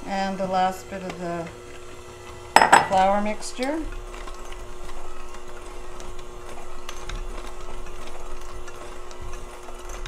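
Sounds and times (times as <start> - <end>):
electric hand mixer running: 0.0 - 10.0.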